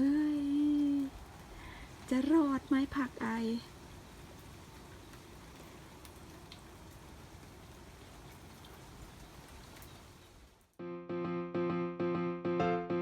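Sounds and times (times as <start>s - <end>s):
raindrops ticking: 0.0s - 10.7s
steady rain hiss: 0.0s - 10.8s.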